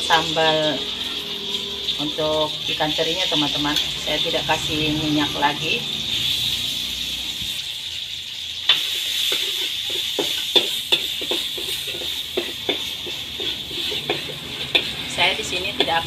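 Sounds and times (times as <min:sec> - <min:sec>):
metal spatula scraping wok: 0:00.0 - 0:16.0
paste sizzling in a wok: 0:00.0 - 0:16.0.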